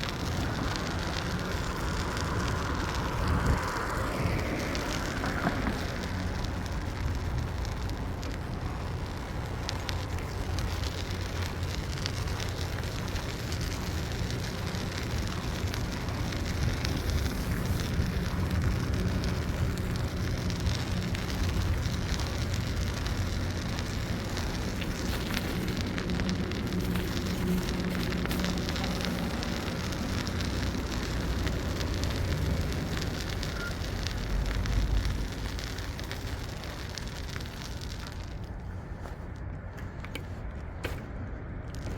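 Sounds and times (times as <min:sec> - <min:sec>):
wind rushing on microphone: 0:00.0 - 0:39.7
bicycle tyre and road noise: 0:00.0 - 0:41.9.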